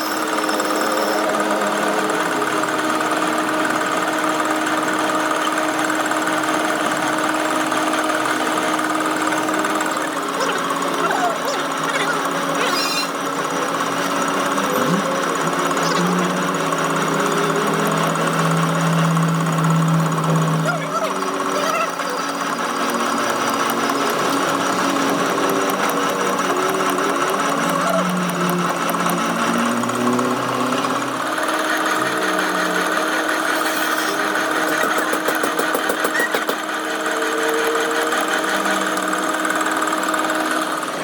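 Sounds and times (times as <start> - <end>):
power tool running with rattle: 0.0 - 41.0.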